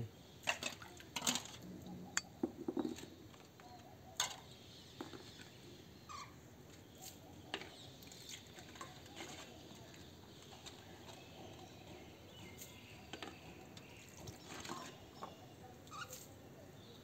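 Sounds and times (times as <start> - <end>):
faint caged birds chirping: 0.0 - 17.0.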